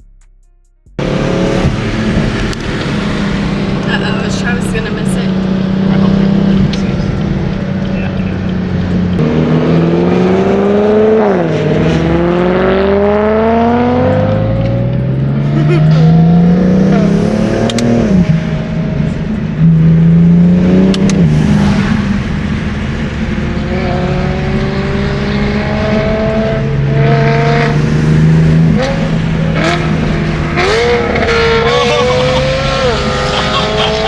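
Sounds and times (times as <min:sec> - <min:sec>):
car engine accelerating: 0:00.8 - 0:34.0.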